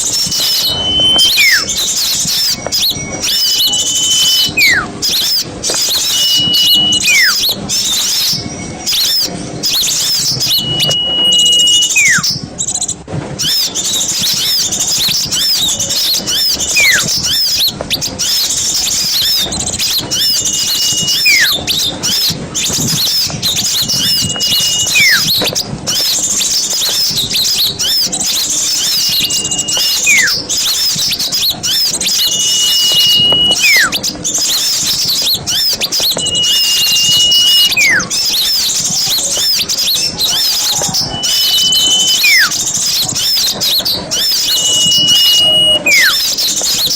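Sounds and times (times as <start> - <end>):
high falling whistle: 0.0 - 12.4, 16.2 - 17.6, 18.9 - 22.3, 23.0 - 25.5, 27.8 - 46.5
songbirds chirping and chattering: 0.0 - 46.9.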